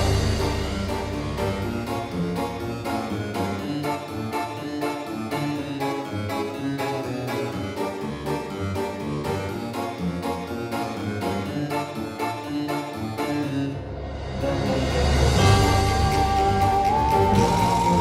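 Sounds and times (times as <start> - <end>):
harpsichord-like keyboard music: 0.0 - 18.0.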